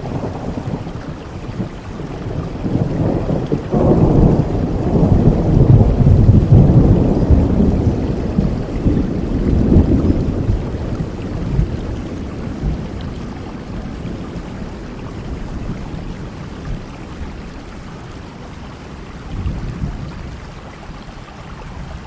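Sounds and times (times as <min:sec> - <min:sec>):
thunder rumbling: 0:00.0 - 0:21.0
steady rain: 0:00.0 - 0:22.0.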